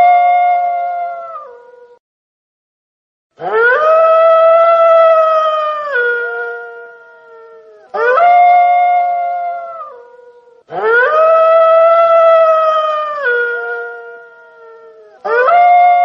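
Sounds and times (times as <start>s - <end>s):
wolf howling: 0.0s - 2.0s, 3.4s - 16.0s.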